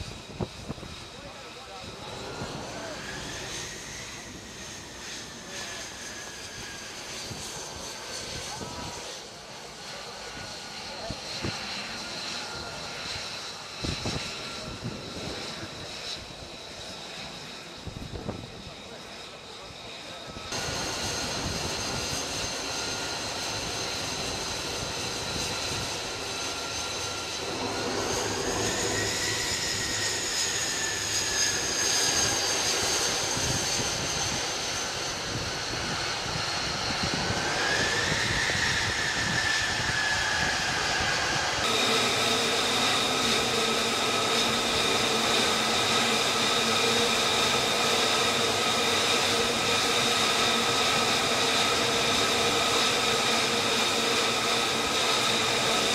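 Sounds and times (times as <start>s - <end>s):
jet engine whining: 0.0s - 55.9s.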